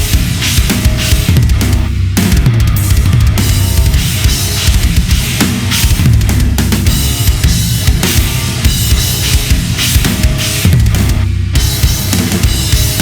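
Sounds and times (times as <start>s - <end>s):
drum kit played hard: 0.0s - 13.0s
heavy rock backing track: 0.0s - 13.0s.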